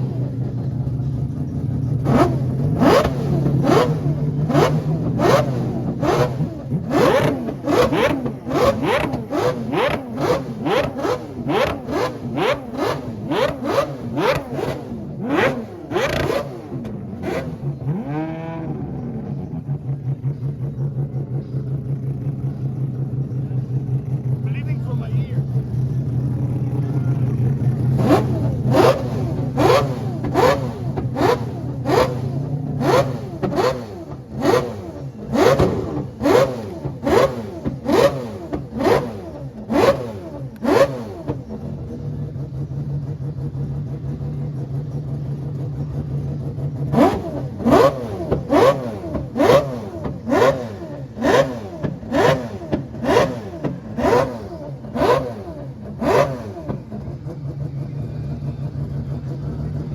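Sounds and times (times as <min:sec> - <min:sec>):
car engine idling: 0:00.0 - 0:59.9
car engine revving: 0:00.0 - 0:59.9.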